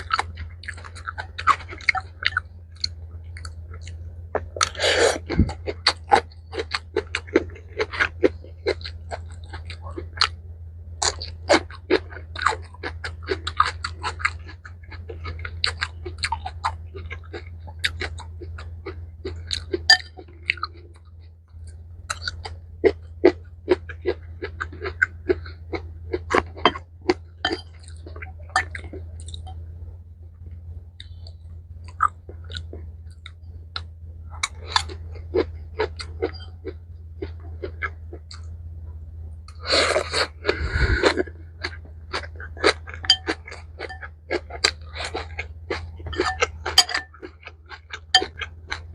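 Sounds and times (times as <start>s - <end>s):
close chewing and crunching: 0.0s - 48.9s
steady low hum: 0.0s - 48.9s.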